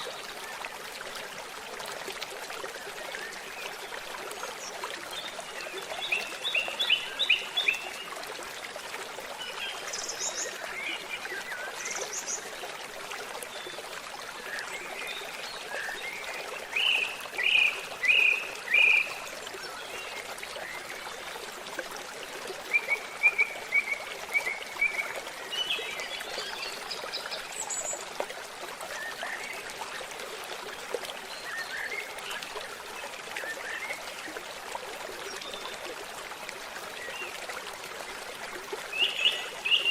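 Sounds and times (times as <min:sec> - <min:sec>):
babbling stream: 0:00.0 - 0:39.9.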